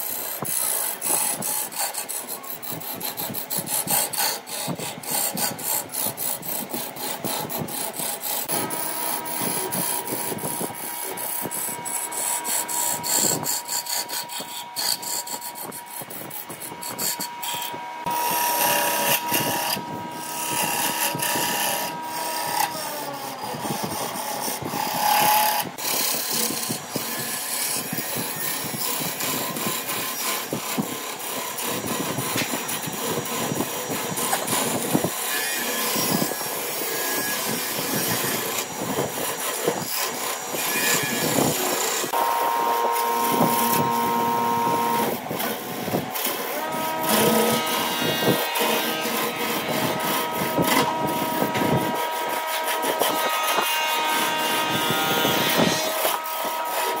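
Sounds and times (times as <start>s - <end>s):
lathe gouge scraping wood: 0.0s - 57.0s.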